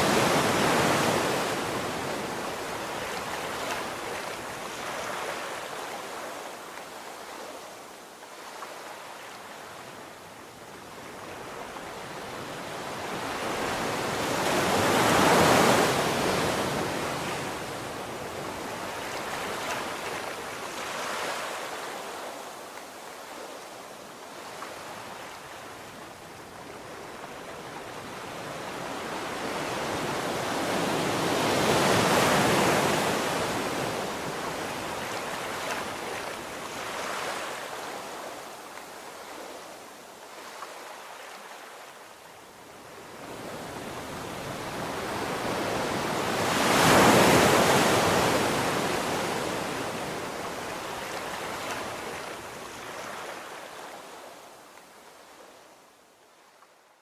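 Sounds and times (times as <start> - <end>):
ocean waves crashing on beach: 0.0 - 55.5.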